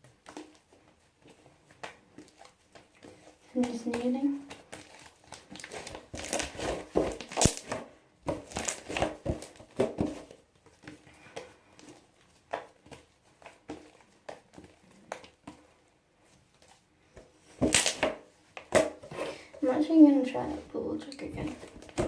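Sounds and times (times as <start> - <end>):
slime kneaded by hand crackling: 0.0 - 22.0.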